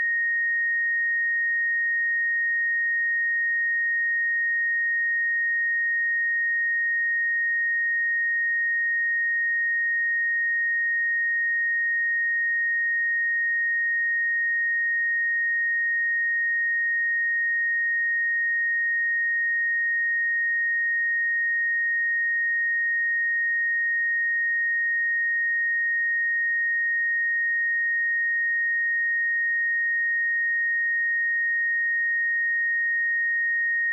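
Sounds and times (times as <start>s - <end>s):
high sine wave test tone: 0.0s - 33.9s.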